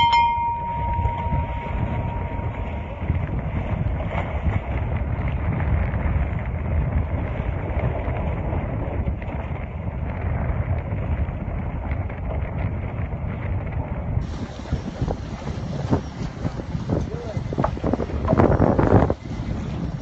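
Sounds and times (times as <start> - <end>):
choppy water: 0.0 - 20.0
wind buffeting microphone: 0.0 - 20.0.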